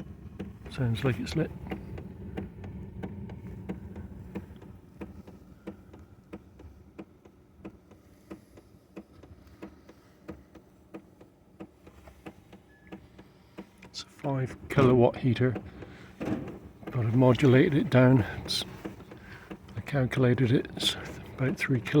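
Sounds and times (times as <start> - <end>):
fuel pump ticking: 0.0 - 22.0
heater fan and burner hum: 0.0 - 22.0.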